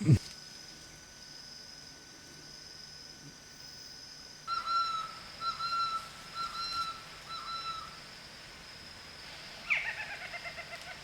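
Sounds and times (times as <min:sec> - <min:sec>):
steady high hum: 0:00.0 - 0:11.0.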